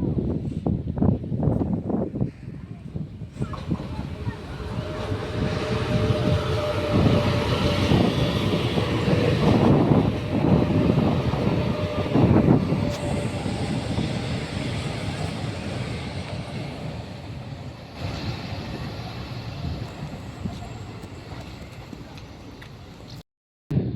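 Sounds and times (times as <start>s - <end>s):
electric train rumbling past: 0.0s - 23.2s.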